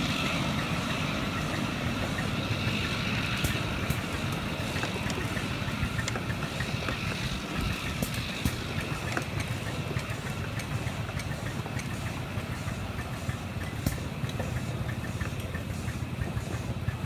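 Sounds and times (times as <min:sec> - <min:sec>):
miniature train rumbling: 0:00.0 - 0:17.0
wheel clicks and knocks: 0:00.0 - 0:17.0.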